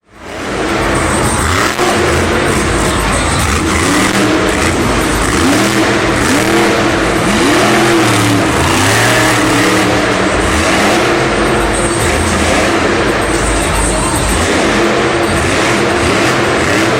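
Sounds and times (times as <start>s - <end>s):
monster truck engine revving: 0.0s - 16.9s.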